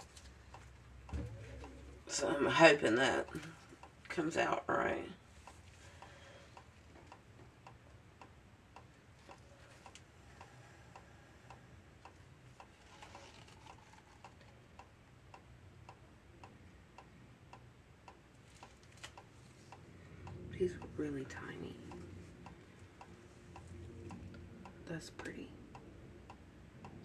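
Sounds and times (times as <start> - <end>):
faint steady ticking: 0.0 - 27.0
low steady hum: 0.0 - 27.0.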